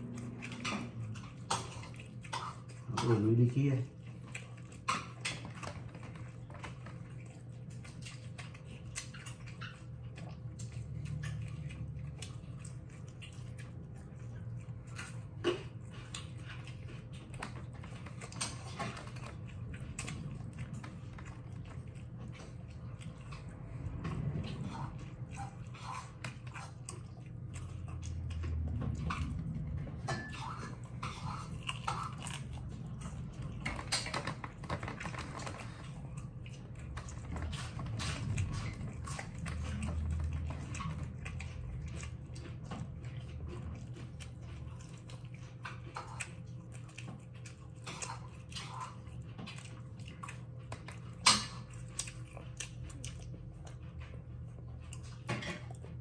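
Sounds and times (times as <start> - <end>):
person chewing and biting: 0.0 - 56.0
steady low hum: 0.0 - 56.0.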